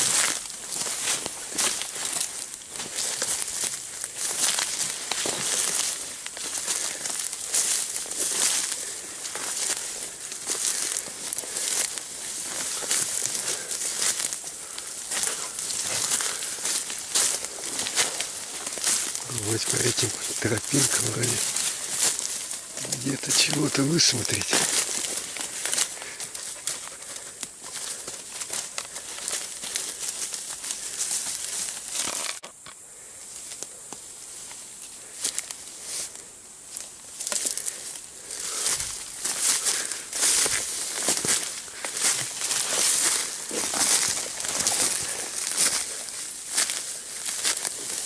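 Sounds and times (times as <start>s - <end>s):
footsteps crunching dry leaves: 0.0s - 32.4s, 33.3s - 48.0s.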